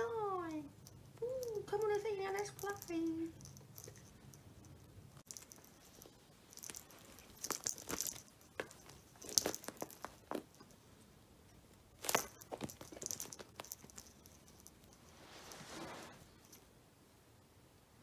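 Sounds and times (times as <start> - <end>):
cat claws scratching rug and toy: 0.7 - 10.8, 11.8 - 16.6.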